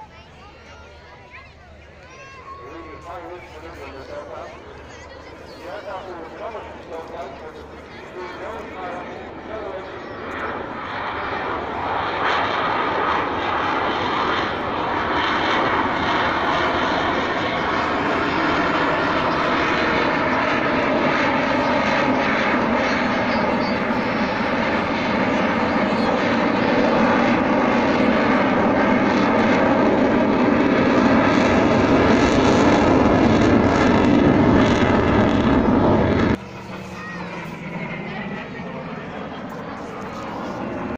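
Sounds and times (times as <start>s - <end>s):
jet engine noise: 0.0s - 40.9s.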